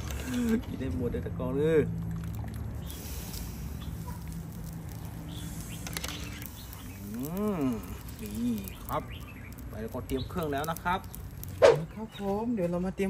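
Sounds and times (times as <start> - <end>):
water dripping into a pot: 0.5 - 12.0.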